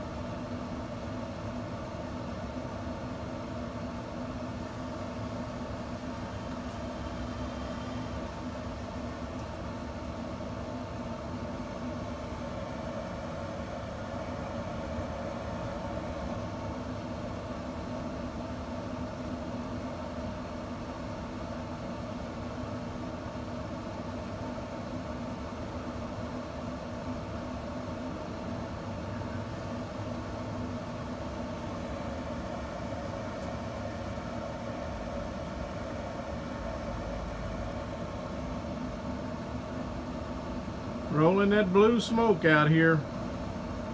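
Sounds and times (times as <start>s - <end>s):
fan humming: 0.0s - 43.9s.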